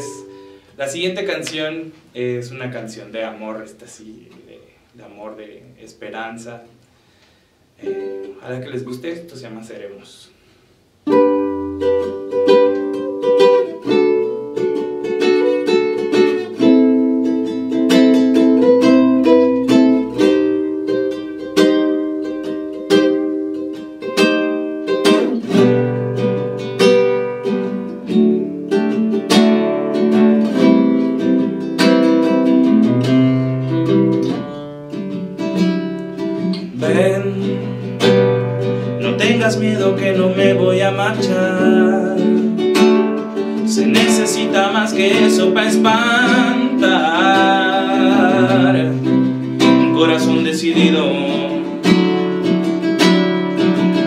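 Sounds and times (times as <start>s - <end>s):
acoustic guitar picked: 0.0s - 54.0s.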